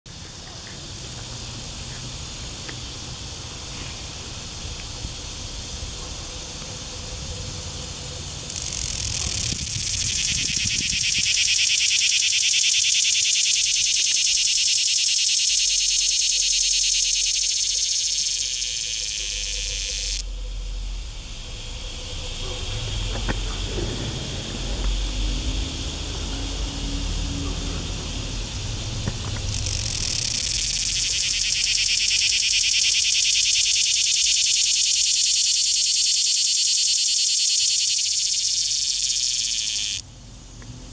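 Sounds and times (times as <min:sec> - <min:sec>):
cicada buzzing: 0:00.1 - 0:40.9.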